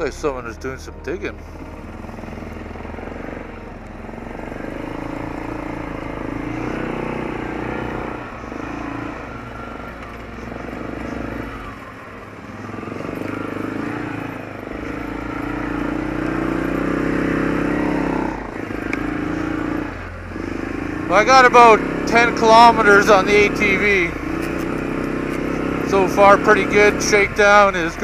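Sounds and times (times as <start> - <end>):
atv engine revving while riding: 1.4 - 28.0.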